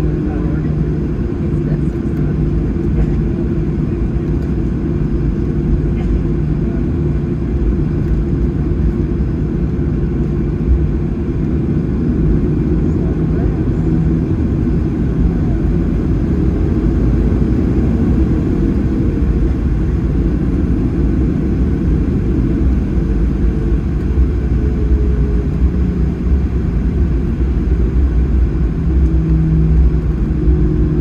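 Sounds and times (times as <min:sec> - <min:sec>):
aircraft cabin low rumble: 0:00.0 - 0:31.0.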